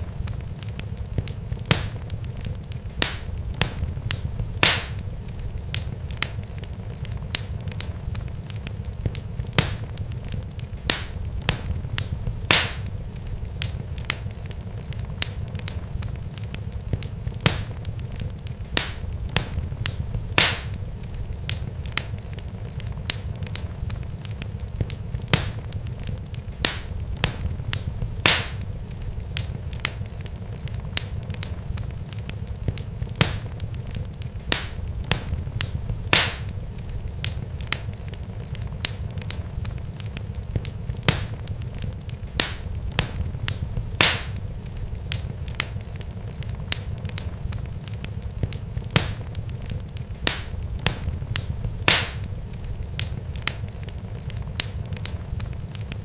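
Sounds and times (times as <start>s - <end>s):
sharp pops and crackles: 0.0s - 56.0s
steady low rumble: 0.0s - 56.0s.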